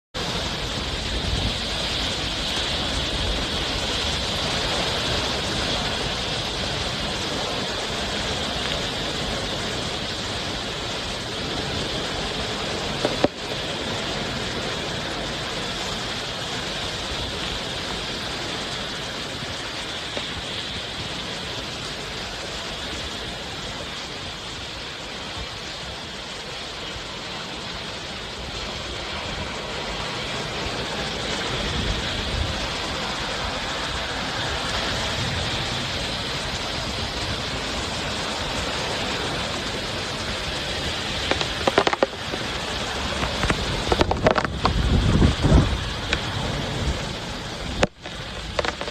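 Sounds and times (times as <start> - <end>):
strong wind blowing: 0.2 - 48.9.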